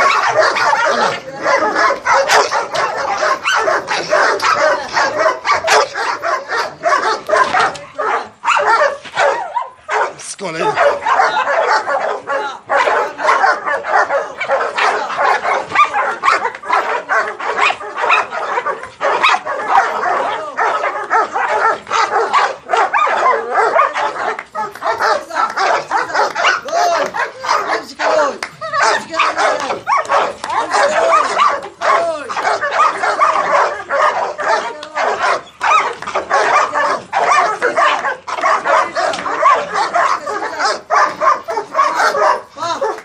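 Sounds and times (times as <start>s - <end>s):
dogs barking excitedly: 0.0s - 43.0s.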